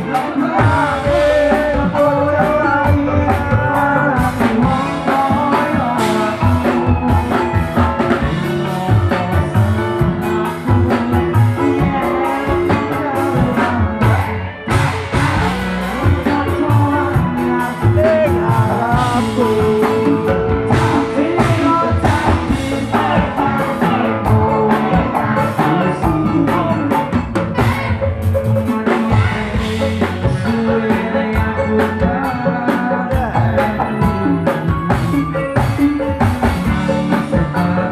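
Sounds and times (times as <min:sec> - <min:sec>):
drum kit: 0:00.0 - 0:37.9
electric guitars: 0:00.0 - 0:37.9
man singing into microphone: 0:00.0 - 0:37.9.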